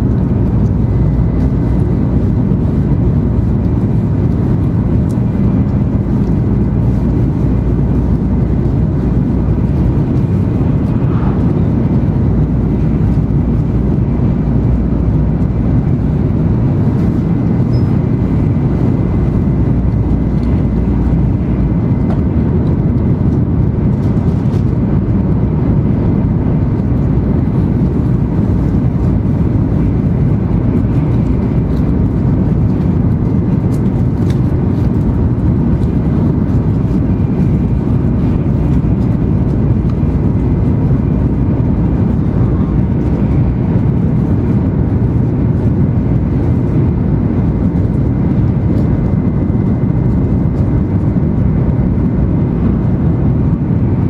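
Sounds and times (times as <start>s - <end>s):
faint steady whine: 0.0s - 54.0s
train cabin rumble at high speed: 0.0s - 54.0s.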